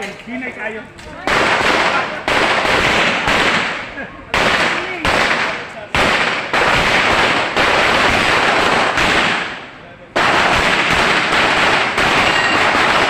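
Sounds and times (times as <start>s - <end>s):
gunshots: 1.2s - 13.0s.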